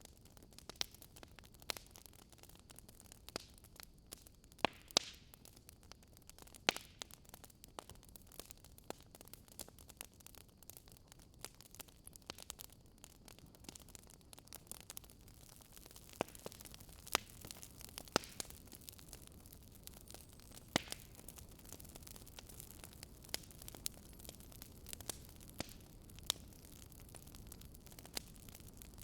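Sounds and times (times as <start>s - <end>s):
low steady hiss: 0.0s - 29.0s
wood fire crackling: 0.0s - 29.0s.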